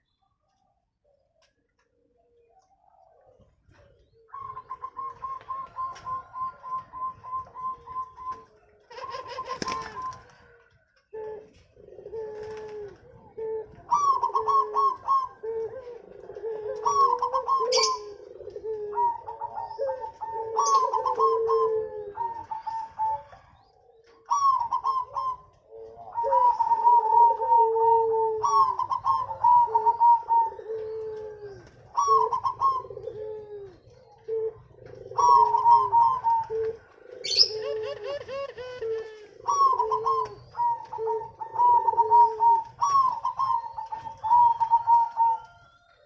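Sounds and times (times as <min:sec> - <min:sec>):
doves cooing: 0:00.0 - 0:46.0.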